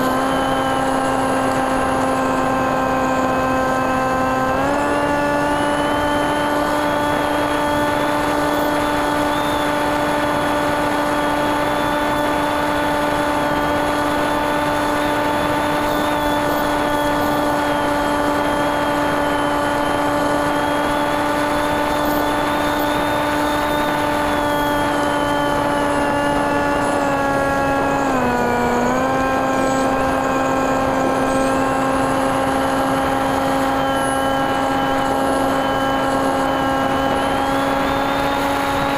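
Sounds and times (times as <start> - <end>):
faint high whine: 0.0 - 38.9
propeller drone: 0.0 - 38.9.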